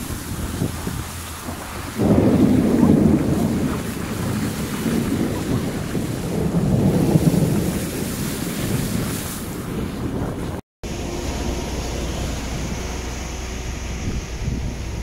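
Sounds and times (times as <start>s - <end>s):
car driving through floodwater: 0.0s - 15.0s.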